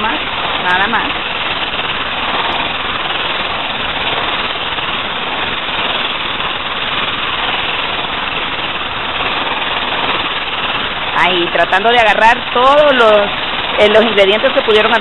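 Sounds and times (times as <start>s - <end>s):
electric mixer running: 0.0s - 15.0s.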